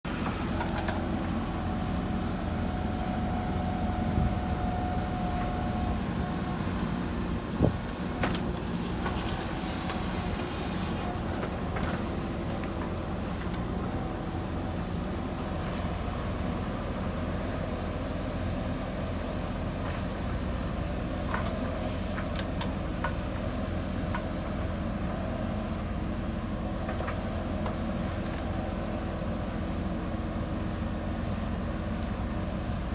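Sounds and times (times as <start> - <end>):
diesel engine rumbling: 0.0 - 32.9.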